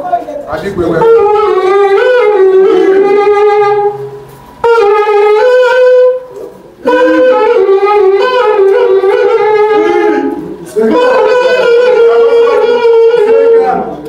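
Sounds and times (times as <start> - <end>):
wind instrument playing held notes: 0.6 - 14.0.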